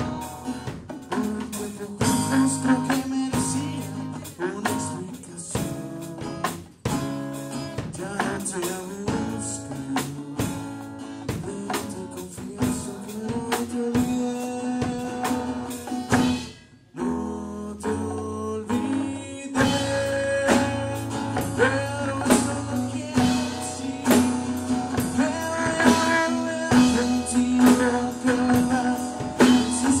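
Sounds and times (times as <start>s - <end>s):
congas: 0.0s - 16.6s, 18.7s - 30.0s
drum kit: 0.0s - 16.7s, 17.9s - 30.0s
guitar: 0.0s - 30.0s
man singing: 0.9s - 6.8s, 7.6s - 30.0s.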